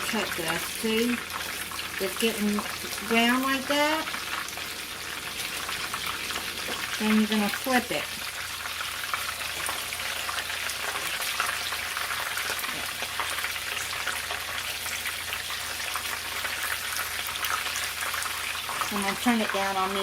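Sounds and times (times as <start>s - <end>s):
chicken frying in oil: 0.0s - 20.0s
oil crackles and pops: 0.0s - 20.0s.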